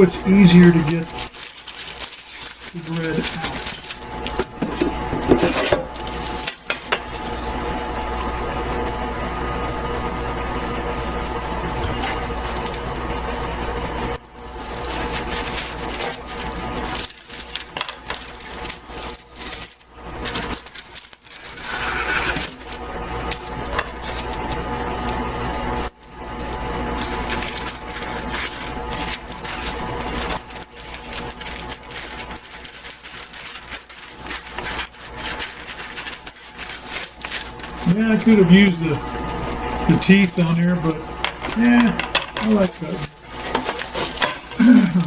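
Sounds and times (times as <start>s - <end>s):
parchment paper rustling and cutting: 0.0s - 8.8s, 11.7s - 45.0s
stand mixer motor running: 0.0s - 45.0s.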